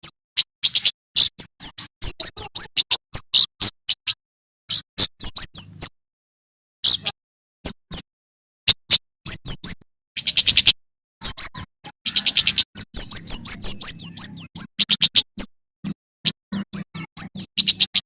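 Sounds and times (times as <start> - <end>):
bird chirping and trilling: 0.0 - 6.0, 6.8 - 8.1, 8.7 - 18.0.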